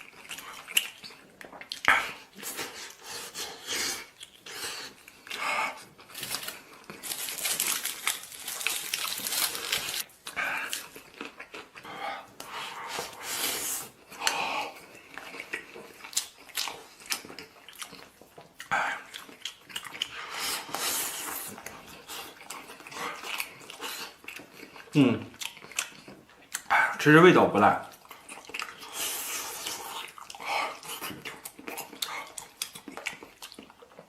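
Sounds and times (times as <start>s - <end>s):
person chewing and biting: 0.0s - 26.7s, 27.9s - 34.0s.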